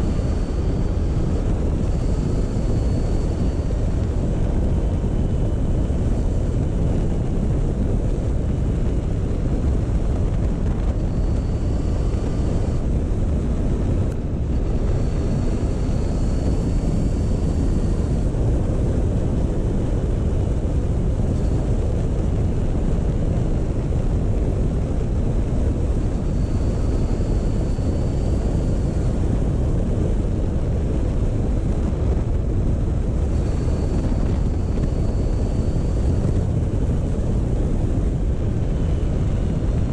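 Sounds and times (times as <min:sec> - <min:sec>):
faint high whine: 0:00.0 - 0:39.9
wind rushing over microphone: 0:00.0 - 0:39.9.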